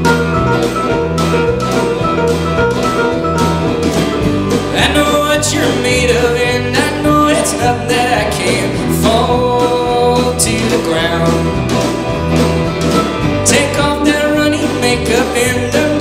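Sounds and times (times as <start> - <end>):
folk band playing: 0.0 - 16.0
mandolin picking: 0.0 - 16.0.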